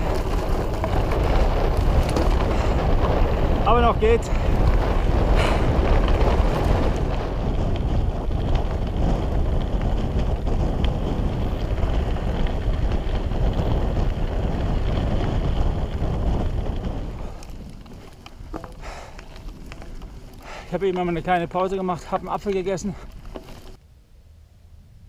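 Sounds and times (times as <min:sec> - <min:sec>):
bike rolling on dusty trail: 0:00.0 - 0:23.8
wind rushing over microphone: 0:00.0 - 0:23.8.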